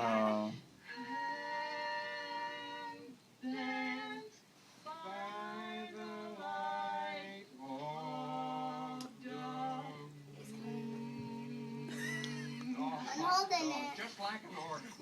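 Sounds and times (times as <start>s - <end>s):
people singing: 0.0s - 13.3s.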